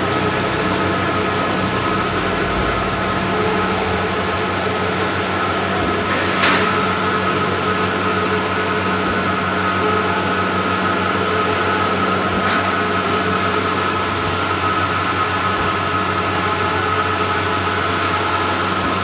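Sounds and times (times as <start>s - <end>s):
printer whirring and humming: 0.0s - 19.0s.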